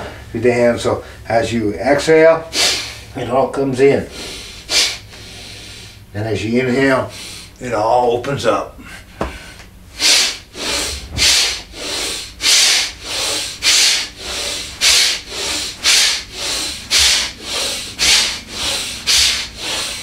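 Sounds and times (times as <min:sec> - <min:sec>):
man breathing hard and fast: 0:00.0 - 0:01.3, 0:02.4 - 0:03.2, 0:04.0 - 0:06.1, 0:06.7 - 0:07.6, 0:08.7 - 0:20.0.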